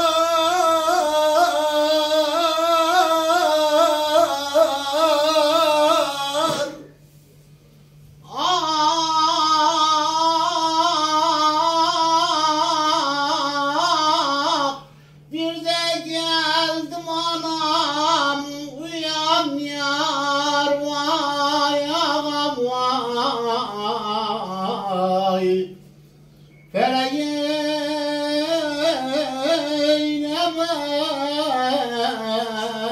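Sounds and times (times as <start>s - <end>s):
man singing unaccompanied: 0.0s - 7.0s, 8.2s - 25.9s, 26.7s - 32.9s
faint steady hum: 0.0s - 32.9s.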